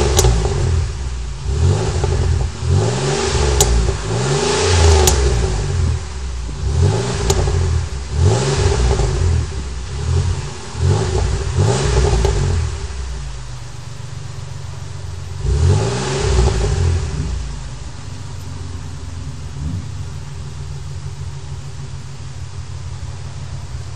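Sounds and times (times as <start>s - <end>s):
car engine revving and idling: 0.0s - 23.9s.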